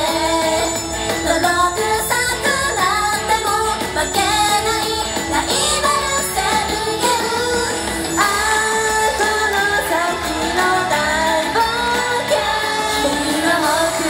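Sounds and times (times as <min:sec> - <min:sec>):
pop music: 0:00.0 - 0:14.0
woman singing into microphone: 0:00.0 - 0:14.0.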